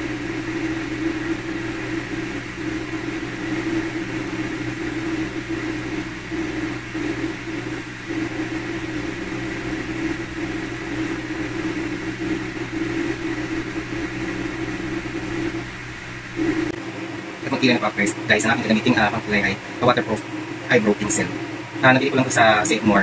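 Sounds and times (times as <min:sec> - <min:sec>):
mechanical hum with low drone: 0:00.0 - 0:23.0.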